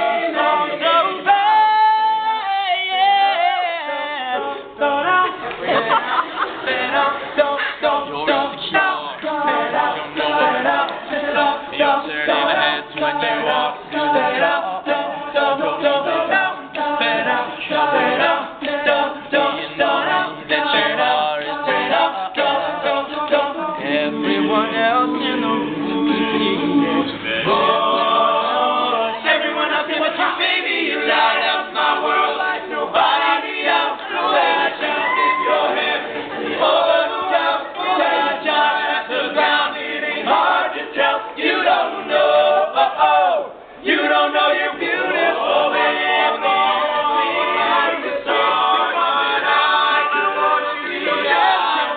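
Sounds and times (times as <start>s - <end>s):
male a cappella group singing: 0.0s - 51.9s.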